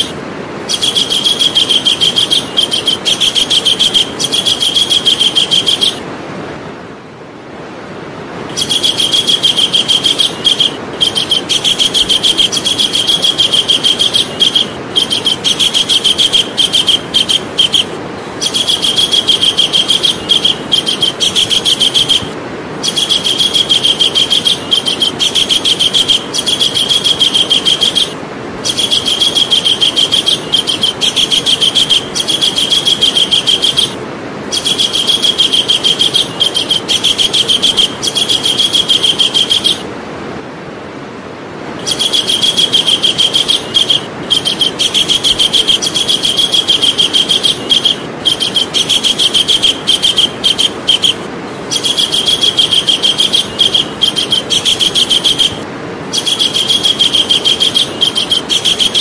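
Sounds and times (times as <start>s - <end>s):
kingfisher rattling call: 0.0s - 6.0s, 8.5s - 39.9s, 41.8s - 59.0s
steady hiss: 0.0s - 59.0s.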